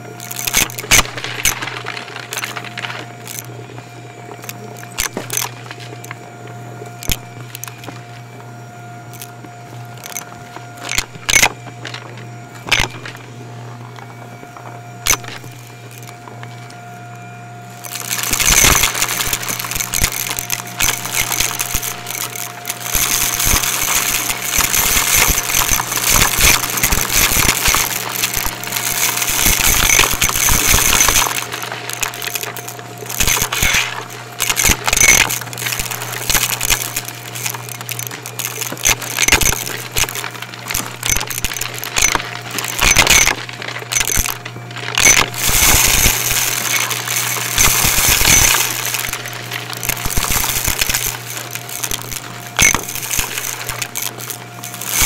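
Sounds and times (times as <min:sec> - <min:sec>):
debris crunching through vacuum: 0:00.0 - 0:08.0, 0:17.7 - 0:55.0
vacuum motor hum: 0:00.0 - 0:55.0.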